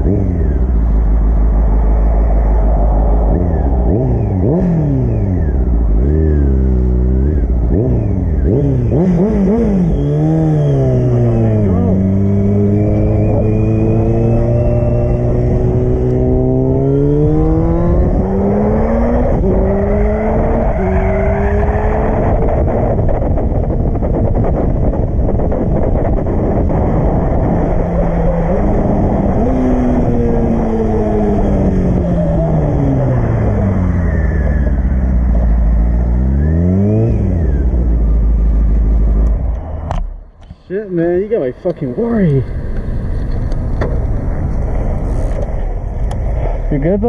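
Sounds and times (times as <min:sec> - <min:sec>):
heavy wind noise: 0:00.0 - 0:47.0
motorcycle engine shifting gears: 0:00.0 - 0:47.0.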